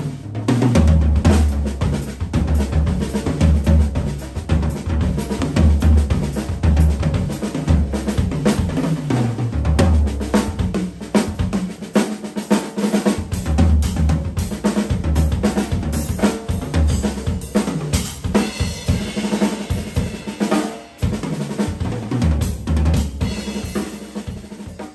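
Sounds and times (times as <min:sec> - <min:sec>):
drum kit playing: 0:00.0 - 0:24.9.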